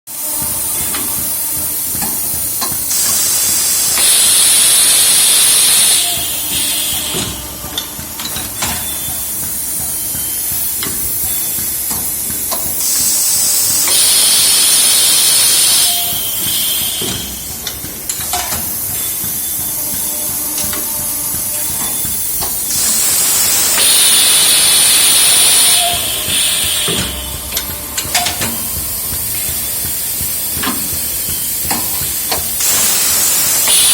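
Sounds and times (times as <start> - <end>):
loud high hissing blast: 0.1 - 33.9
machine steady hiss: 0.1 - 33.9
machine clicks and knocks: 0.2 - 33.9.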